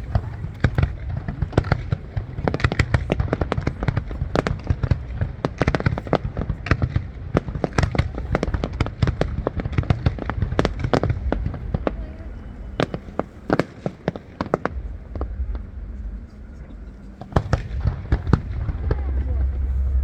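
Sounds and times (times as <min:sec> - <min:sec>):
fireworks bangs and crackling: 0:00.0 - 0:20.0
low rumble: 0:00.0 - 0:20.0.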